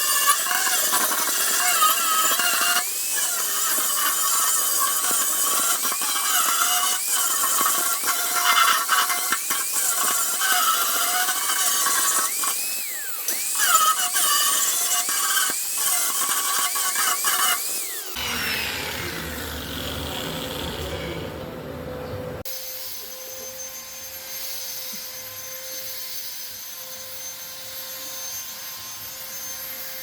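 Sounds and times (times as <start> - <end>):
power tool working metal: 0.0 - 30.0.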